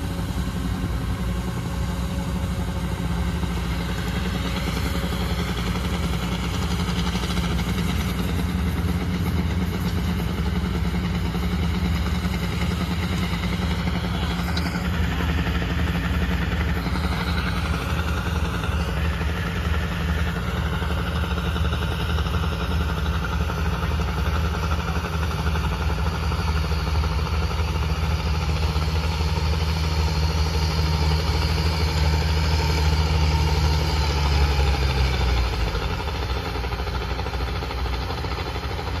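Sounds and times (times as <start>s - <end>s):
harvester engines running: 0.0s - 39.0s.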